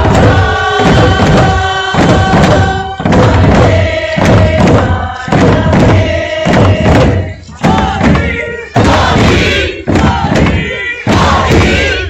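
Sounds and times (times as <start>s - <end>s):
drum thumps: 0.0s - 12.0s
voices chanting: 0.0s - 12.0s.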